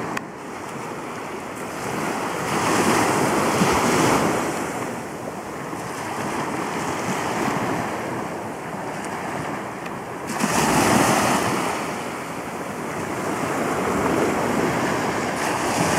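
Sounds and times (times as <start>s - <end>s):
small waves lapping on sand: 0.0s - 15.9s
wind buffeting microphone: 0.0s - 15.9s.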